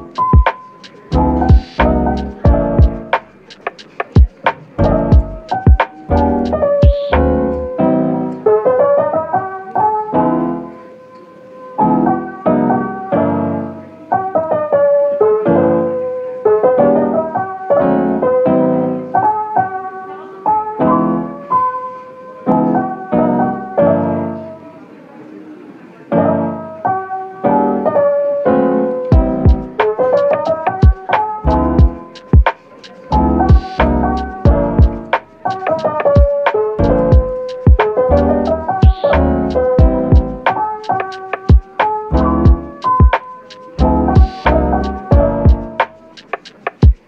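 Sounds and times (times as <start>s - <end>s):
piano melody: 0.0s - 47.0s.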